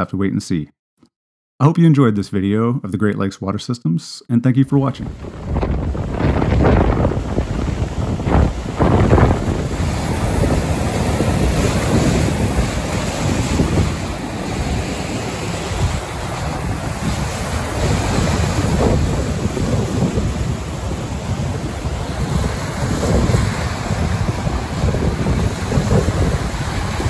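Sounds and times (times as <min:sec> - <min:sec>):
wind buffeting microphone: 0:05.0 - 0:27.0
lake waves breaking on shore: 0:05.1 - 0:27.0.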